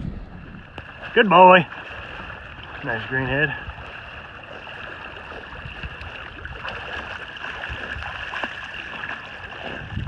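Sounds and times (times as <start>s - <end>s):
dog paddling in water: 0.8s - 10.0s.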